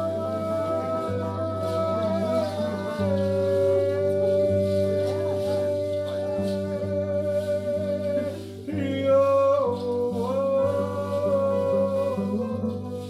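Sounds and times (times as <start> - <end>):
electric guitar playing: 0.0 - 13.0.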